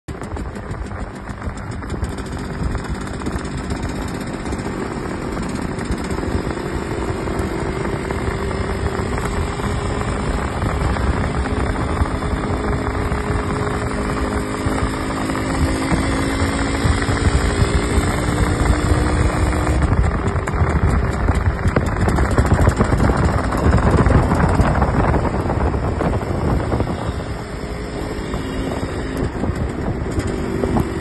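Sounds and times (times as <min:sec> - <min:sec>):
motorcycle engine accelerating: 0:00.0 - 0:31.0
wind and road noise: 0:00.0 - 0:31.0.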